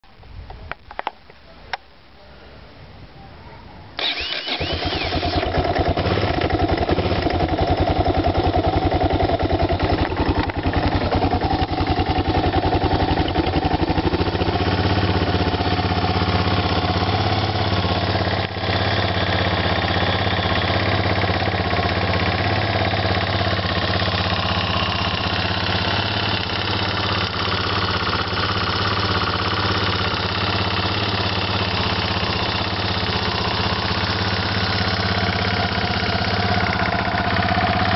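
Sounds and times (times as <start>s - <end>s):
motorcycle engine idling: 4.0s - 37.9s.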